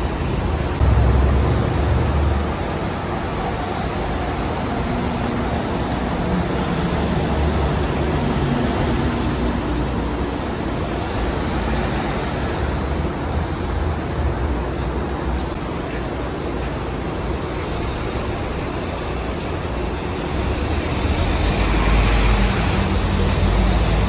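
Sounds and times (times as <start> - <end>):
bus engine rumble: 0.0 - 24.0
faint high whine: 0.0 - 24.0
tyre and traffic noise: 0.0 - 24.0.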